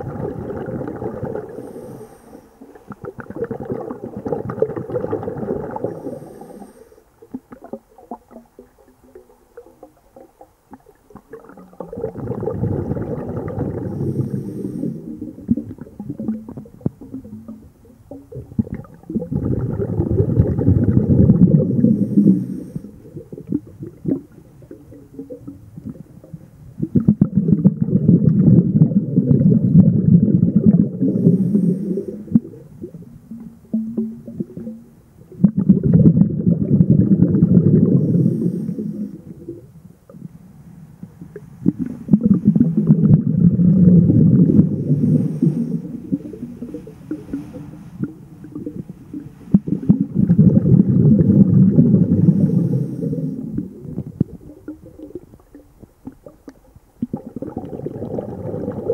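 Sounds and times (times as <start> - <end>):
diver exhaling bubbles underwater: 0.0 - 58.9.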